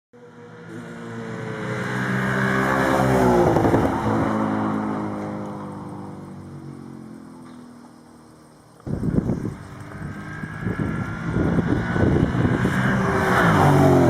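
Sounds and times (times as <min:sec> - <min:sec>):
car engine driving past: 0:00.3 - 0:14.0.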